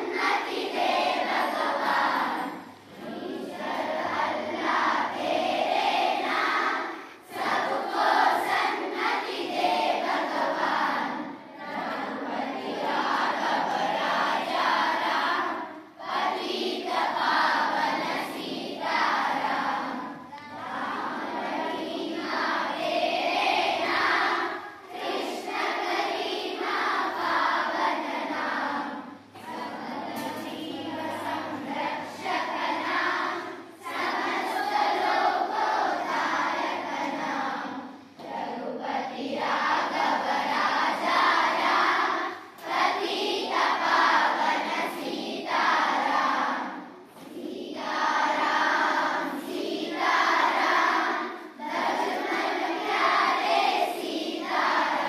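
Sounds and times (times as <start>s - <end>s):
children singing in chorus: 0.0s - 55.0s.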